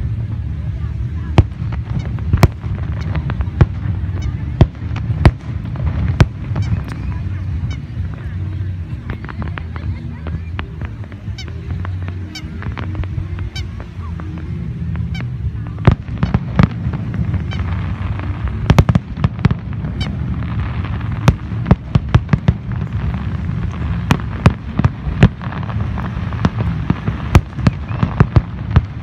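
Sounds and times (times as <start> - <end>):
fireworks bangs: 0.0 - 29.0
low steady hum: 0.0 - 29.0.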